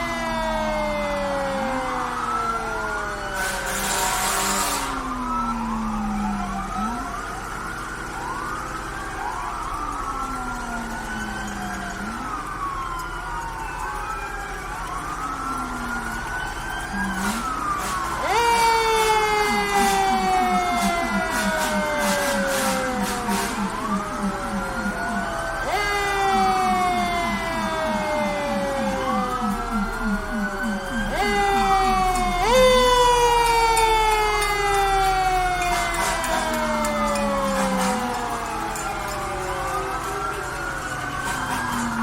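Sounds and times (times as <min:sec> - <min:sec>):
emergency sirens wailing: 0:00.0 - 0:42.0.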